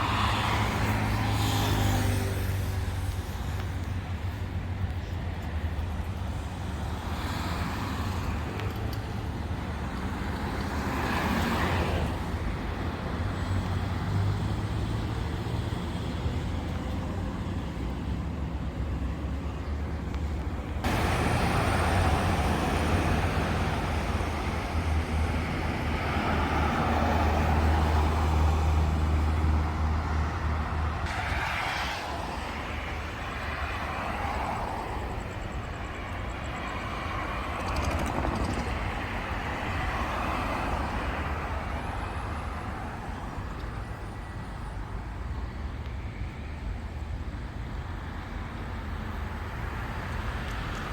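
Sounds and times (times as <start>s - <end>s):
traffic rumble: 0.0s - 50.9s
vehicles passing by: 0.0s - 50.9s.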